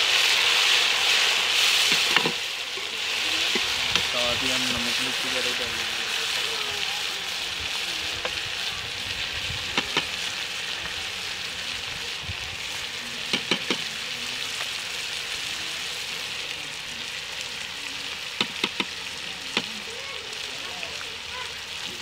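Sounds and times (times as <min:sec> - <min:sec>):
vegetables sizzling in hot fat: 0:00.0 - 0:22.0.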